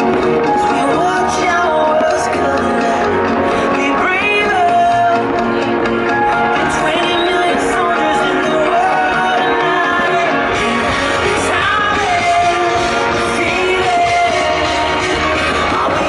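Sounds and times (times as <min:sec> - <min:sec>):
loud music with singer: 0:00.0 - 0:16.0.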